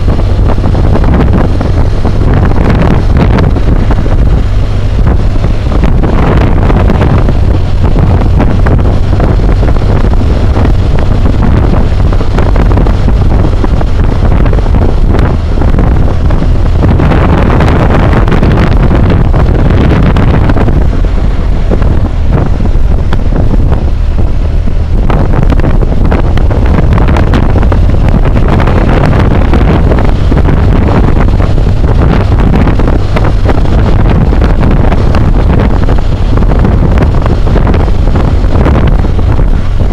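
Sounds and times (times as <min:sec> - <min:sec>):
motorcycle engine running: 0:00.0 - 0:39.9
wind roar on microphone: 0:00.0 - 0:39.9.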